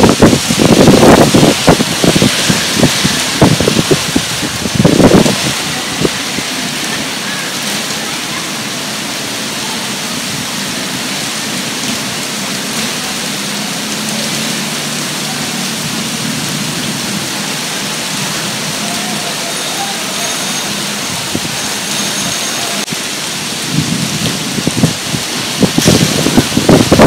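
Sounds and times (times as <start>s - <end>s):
rain falling on wet street: 0.0s - 27.0s.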